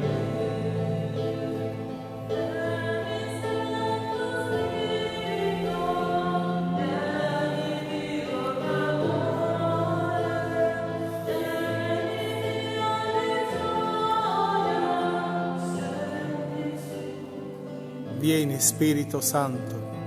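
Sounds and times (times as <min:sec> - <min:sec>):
choir singing held notes: 0:00.0 - 0:20.0.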